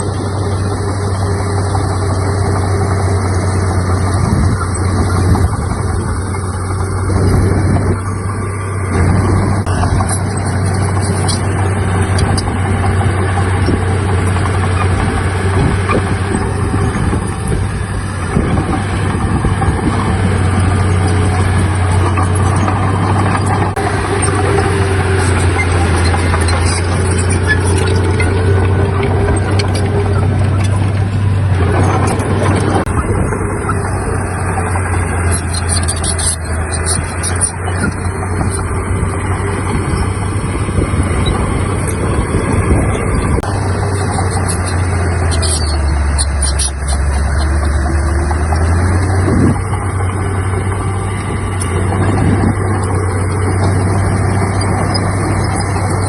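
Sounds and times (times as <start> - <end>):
diesel engine hum: 0.0 - 56.0.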